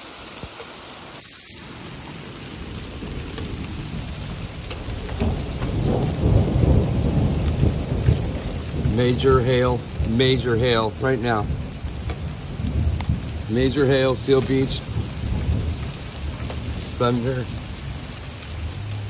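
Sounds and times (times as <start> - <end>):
hail pelting down: 0.0 - 19.0
thunder rumbling: 1.5 - 19.0.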